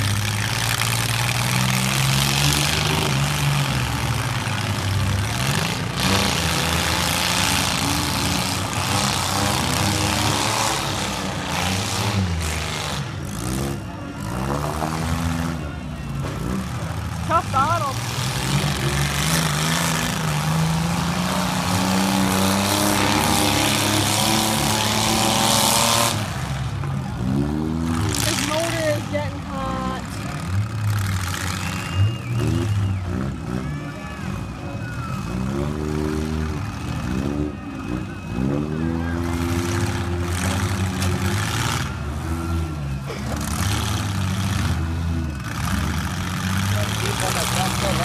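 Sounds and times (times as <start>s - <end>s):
car engine running hard: 0.0s - 48.0s.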